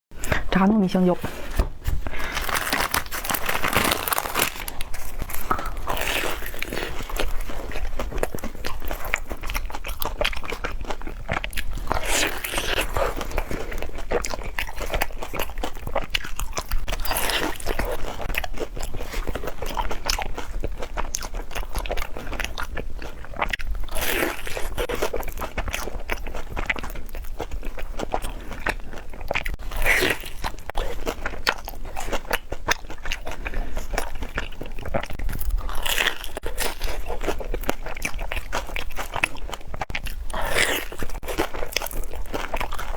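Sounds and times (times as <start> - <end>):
crunching and chewing fried food: 1.9 - 42.9.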